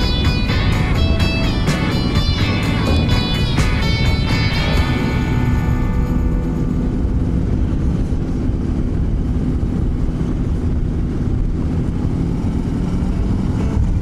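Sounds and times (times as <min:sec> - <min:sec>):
motorcycle engine rumble: 0:00.0 - 0:14.0
wind noise: 0:00.0 - 0:14.0.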